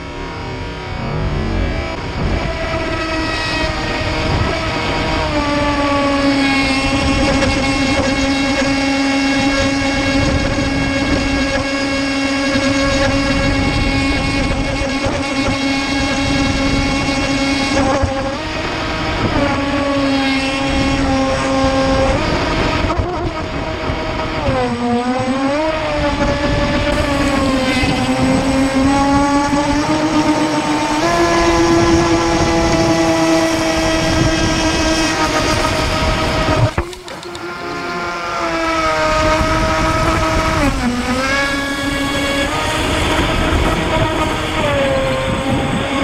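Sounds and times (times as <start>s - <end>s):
electric motor whining: 0.0s - 46.0s
water rushing against hull: 0.7s - 46.0s.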